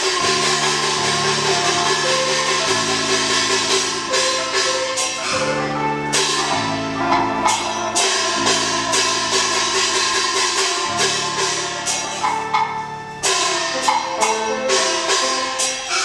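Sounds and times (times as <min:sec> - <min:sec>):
sharp percussion strikes: 0:00.0 - 0:16.0
sustained instrumental melody: 0:00.0 - 0:16.0.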